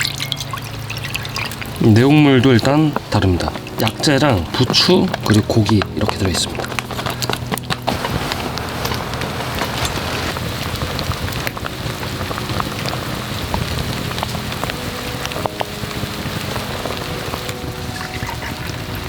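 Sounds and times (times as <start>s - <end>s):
pot of broth boiling: 0.0s - 19.0s.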